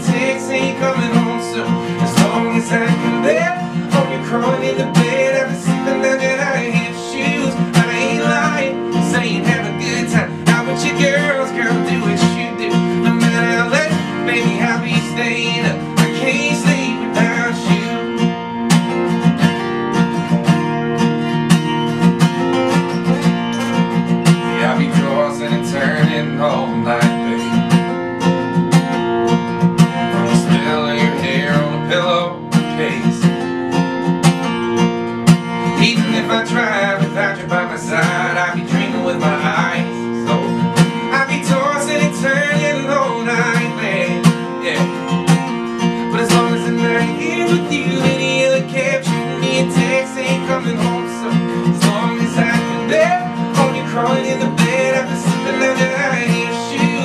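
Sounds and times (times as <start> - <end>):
man singing: 0.0 - 18.5, 22.7 - 28.4, 29.8 - 33.5, 35.5 - 57.0
acoustic guitars strumming: 0.0 - 57.0.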